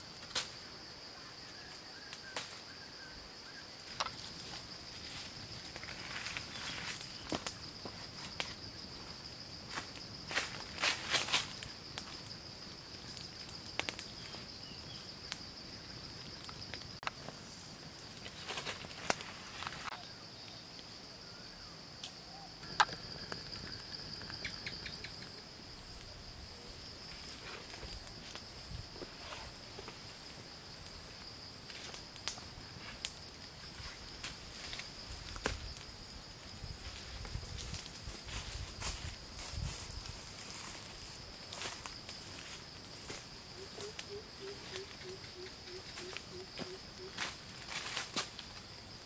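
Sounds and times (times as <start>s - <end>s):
campfire crackling: 0.0s - 1.5s, 3.7s - 49.0s
crickets chirping: 0.0s - 49.0s.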